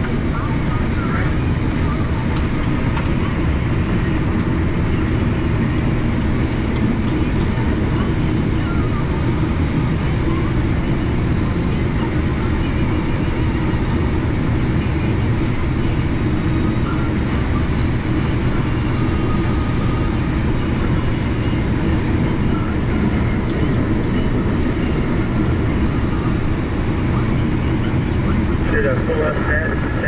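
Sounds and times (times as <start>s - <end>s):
combine harvester engine drone: 0.0s - 30.0s.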